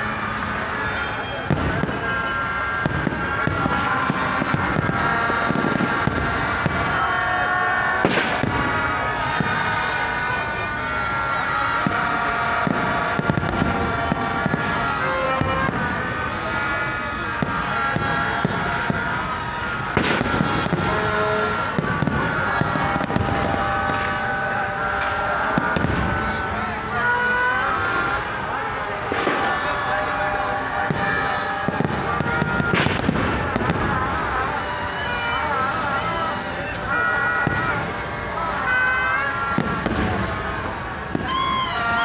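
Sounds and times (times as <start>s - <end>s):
constant background din: 0.0s - 42.0s
fireworks bangs: 0.0s - 42.0s.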